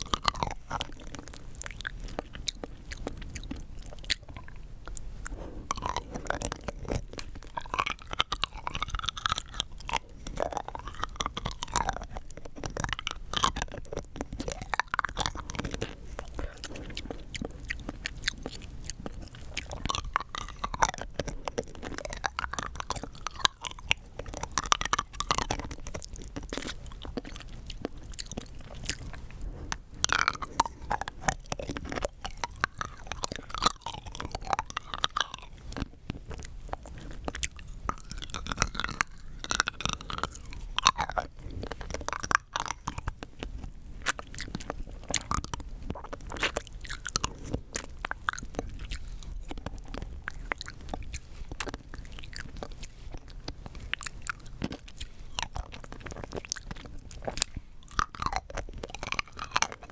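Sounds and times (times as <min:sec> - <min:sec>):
hard candy being chewed: 0:00.0 - 0:59.9.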